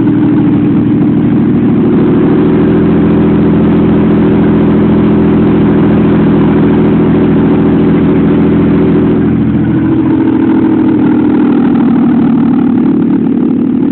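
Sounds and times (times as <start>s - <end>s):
car engine running steadily: 0.0s - 13.9s.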